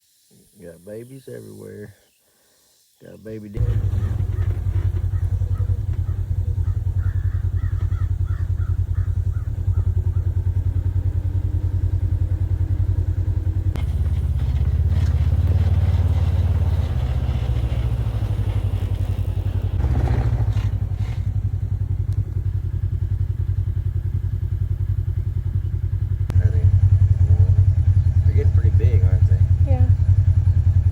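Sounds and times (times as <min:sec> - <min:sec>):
vehicle engine running: 0:03.6 - 0:30.9.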